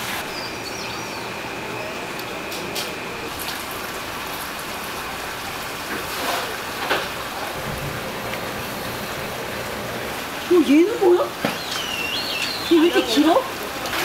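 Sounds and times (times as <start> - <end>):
water running and bubbling: 1.3 - 14.0
water splashes: 2.0 - 14.0.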